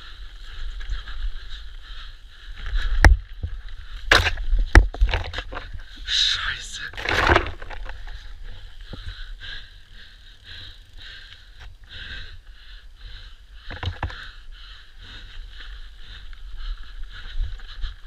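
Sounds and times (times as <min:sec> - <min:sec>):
person breathing hard: 0:00.0 - 0:05.0, 0:05.6 - 0:07.1, 0:07.8 - 0:18.0.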